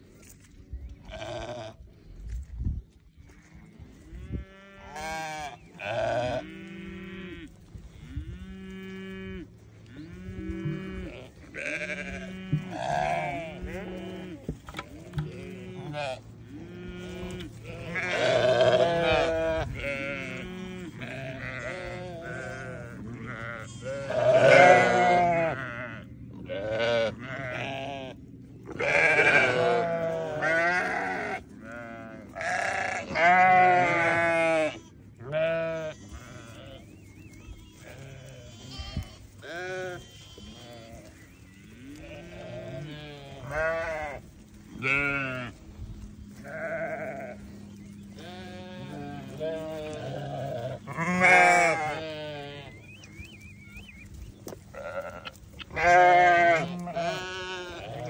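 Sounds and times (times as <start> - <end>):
sheep bleating: 1.0 - 1.8, 3.3 - 45.6, 46.3 - 53.2, 54.7 - 58.0.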